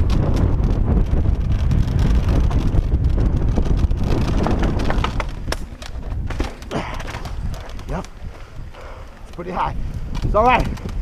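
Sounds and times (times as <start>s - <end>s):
bike rattling over rough trail: 0.0s - 11.0s
wind buffeting microphone: 0.0s - 11.0s.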